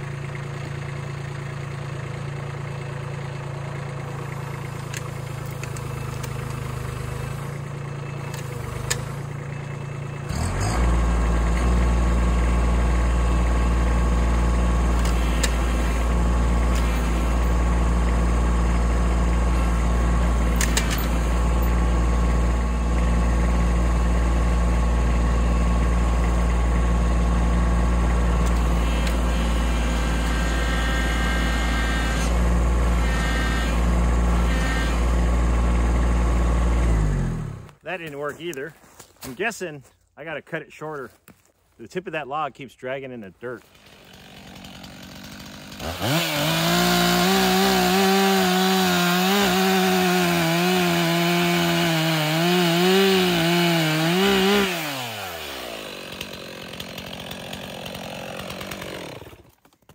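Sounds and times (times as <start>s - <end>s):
tractor diesel engine revving: 0.0s - 38.7s, 41.9s - 59.5s.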